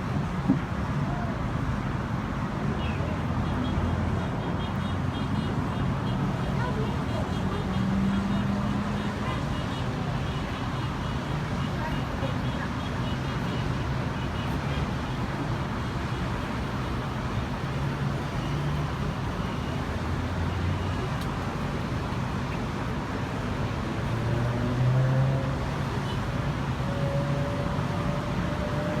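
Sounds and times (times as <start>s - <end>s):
road traffic noise: 0.0s - 29.0s.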